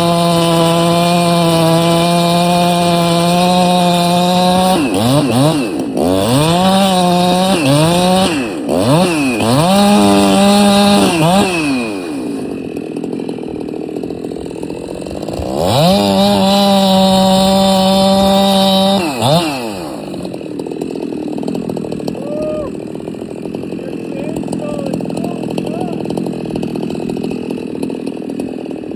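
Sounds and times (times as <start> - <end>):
chainsaw engine revving: 0.0 - 28.9.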